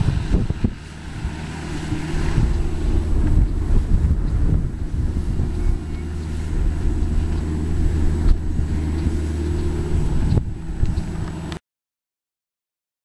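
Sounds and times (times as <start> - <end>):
excavator engine running: 0.0 - 11.6
wind on microphone: 0.0 - 11.6.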